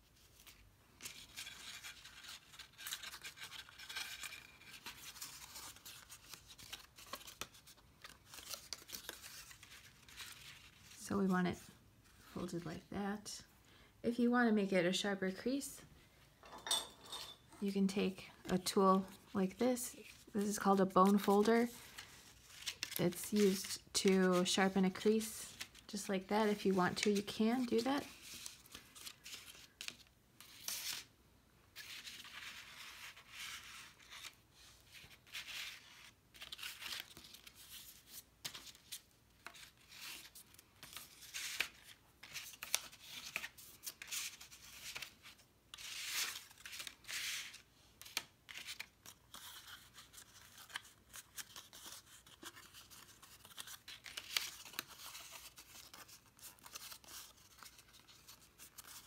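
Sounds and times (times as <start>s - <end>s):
card stock folding and rustling: 0.0s - 12.6s, 18.2s - 31.1s, 31.7s - 59.0s.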